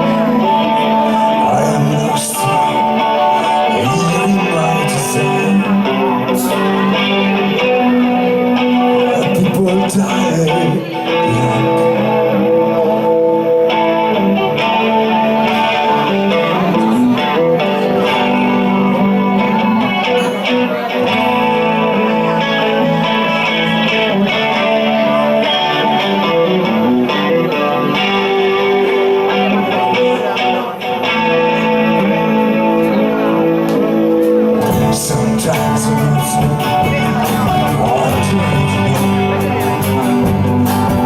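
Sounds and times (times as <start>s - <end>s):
lead guitar: 0.0s - 41.0s
live band playing: 0.0s - 41.0s.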